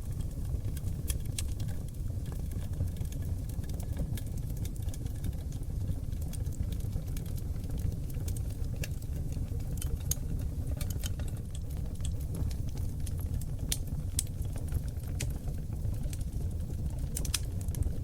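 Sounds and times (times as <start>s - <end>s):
fire crackling and popping: 0.0s - 18.0s
rumble of fire flames: 0.0s - 18.0s.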